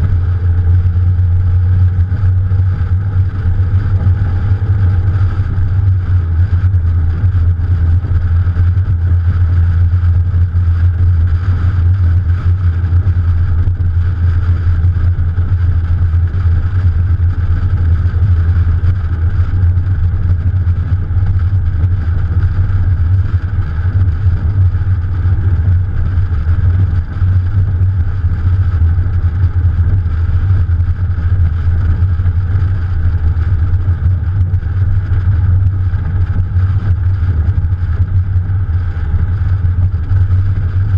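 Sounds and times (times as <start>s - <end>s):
car engine running: 0.0s - 40.9s
wind and road noise: 0.0s - 40.9s.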